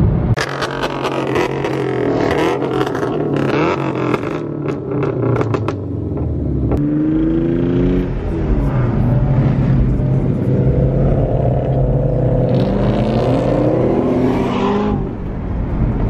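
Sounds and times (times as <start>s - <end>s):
car engine accelerating hard: 0.4s - 16.0s.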